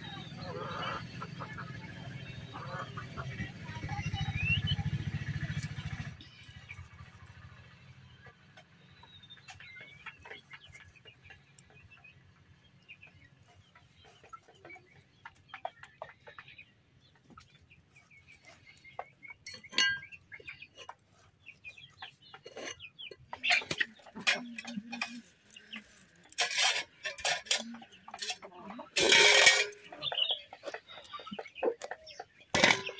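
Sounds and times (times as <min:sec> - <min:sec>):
farm animals calling: 0:00.0 - 0:32.9.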